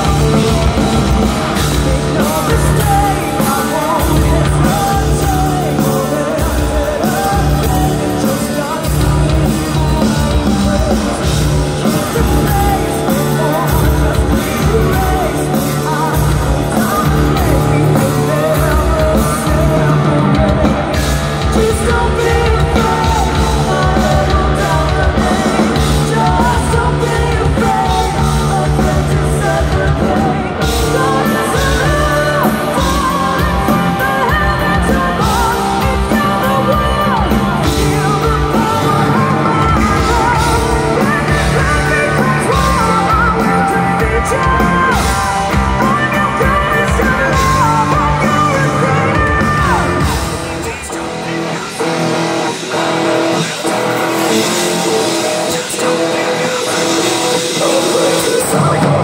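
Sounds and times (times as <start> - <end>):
live rock band playing: 0.0 - 59.0
woman singing lead: 0.0 - 59.0.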